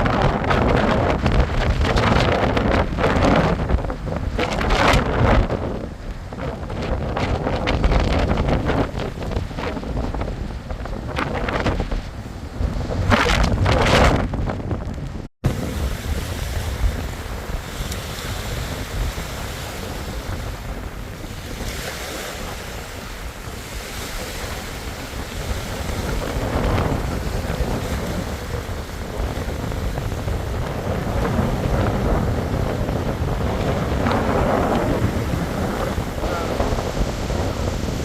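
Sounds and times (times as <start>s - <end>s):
choppy water splashing: 0.0s - 38.0s
wind buffeting microphone: 0.0s - 38.0s.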